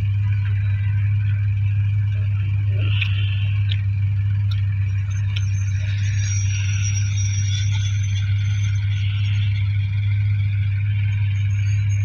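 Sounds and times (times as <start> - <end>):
thresher engine drone: 0.0 - 12.0.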